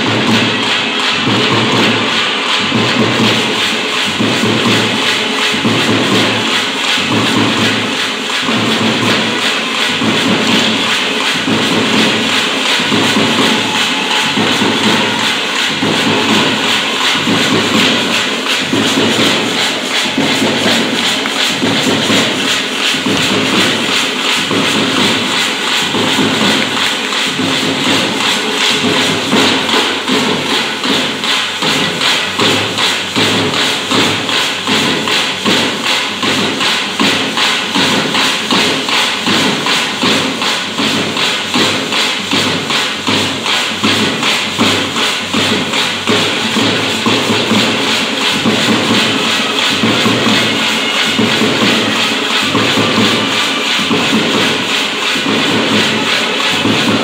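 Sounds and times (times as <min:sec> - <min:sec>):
frame drums beaten with sticks: 0:00.0 - 0:57.0.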